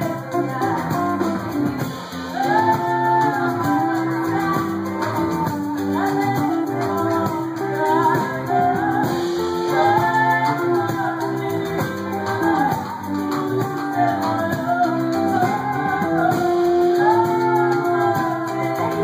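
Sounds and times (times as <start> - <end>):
woman and man singing: 0.0 - 19.0.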